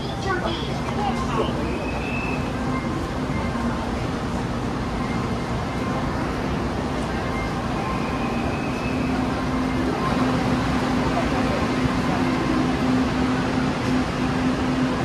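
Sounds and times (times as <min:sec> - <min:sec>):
moving train running noise: 0:00.0 - 0:15.0.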